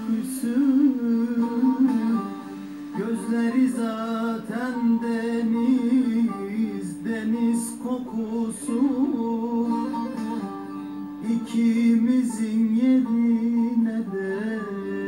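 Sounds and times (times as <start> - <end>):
person singing: 0.0 - 15.0
plucked string accompaniment: 0.0 - 15.0.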